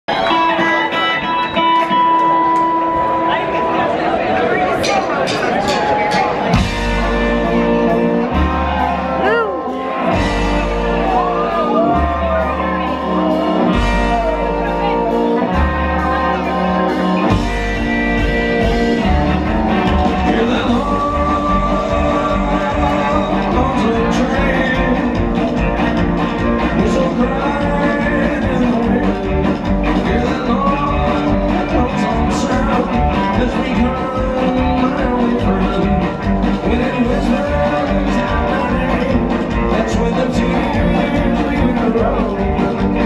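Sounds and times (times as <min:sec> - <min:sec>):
drums: 0:00.0 - 0:43.0
electric guitar: 0:00.1 - 0:43.0
upright bass: 0:05.7 - 0:43.0.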